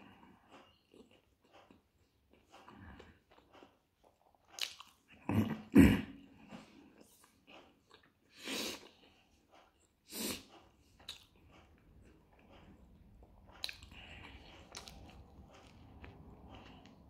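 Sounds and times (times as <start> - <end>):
man chewing: 0.0 - 5.6, 6.2 - 17.0.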